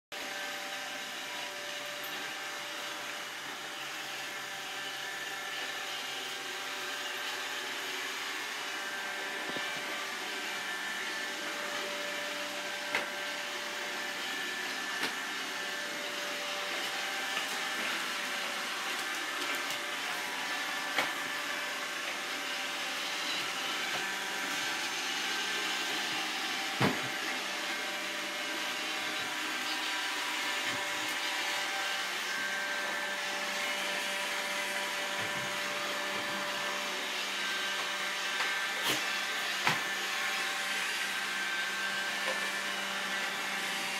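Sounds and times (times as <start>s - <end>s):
robot vacuum whirring hum: 0.2s - 43.9s.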